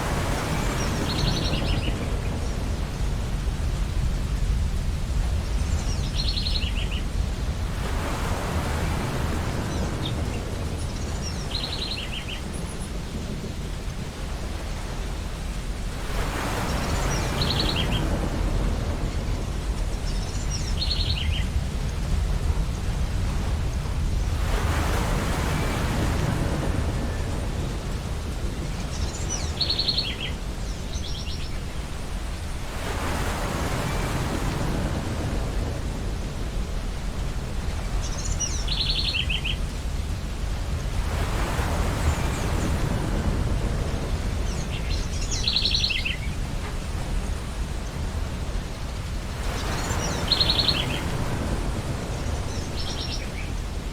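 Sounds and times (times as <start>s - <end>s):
ocean waves washing onto beach: 0.0s - 53.9s.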